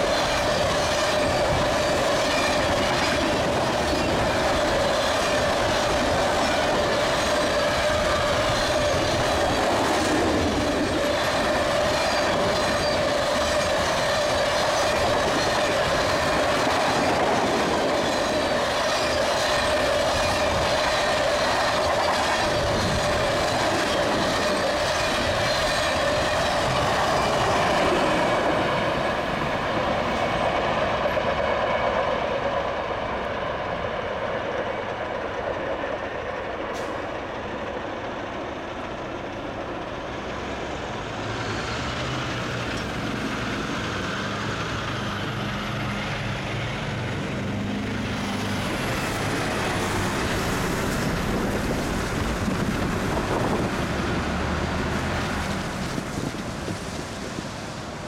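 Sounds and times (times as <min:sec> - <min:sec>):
train wheels rushing on rail: 0:00.0 - 0:58.0.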